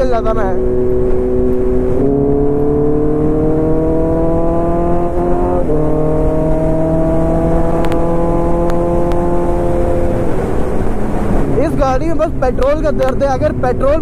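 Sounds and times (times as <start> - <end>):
motorcycle engine accelerating: 0.0 - 13.9
wind rush: 0.0 - 14.0.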